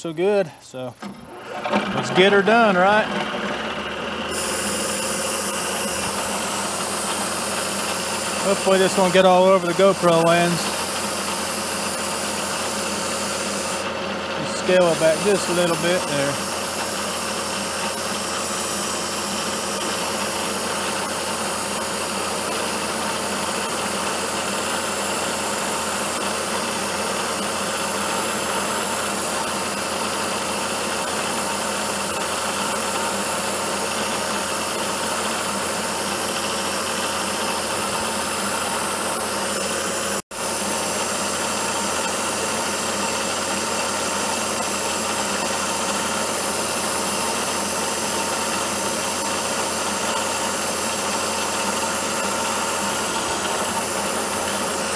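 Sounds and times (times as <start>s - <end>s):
milling machine hum with whine: 0.0s - 54.9s
coolant spray hissing: 4.2s - 54.9s.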